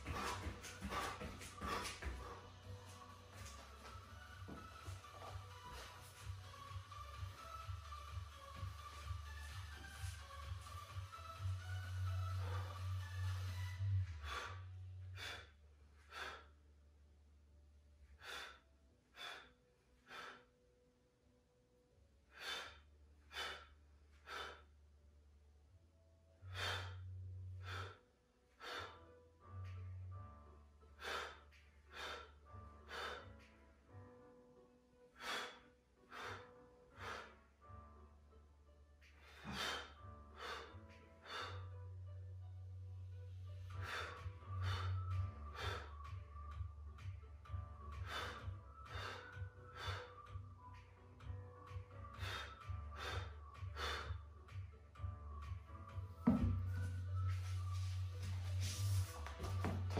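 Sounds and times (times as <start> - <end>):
quiet background music: 0.0 - 59.9.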